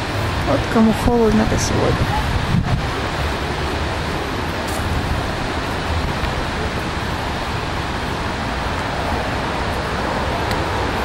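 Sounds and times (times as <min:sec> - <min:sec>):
background hiss: 0:00.0 - 0:11.0
wind rumble on microphone: 0:00.0 - 0:11.0.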